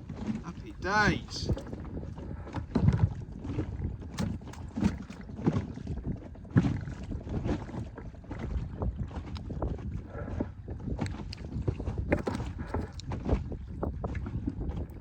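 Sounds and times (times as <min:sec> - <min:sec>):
wind noise on microphone: 0:00.0 - 0:15.0
knocks and thuds on boat: 0:01.4 - 0:15.0.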